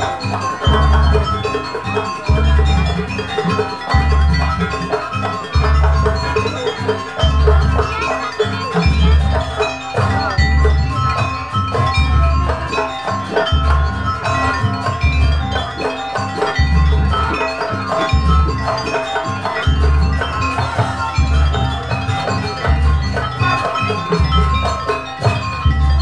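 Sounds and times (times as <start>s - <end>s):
deep low drum beat: 0.0s - 26.0s
metal-keyed percussion runs: 0.0s - 26.0s.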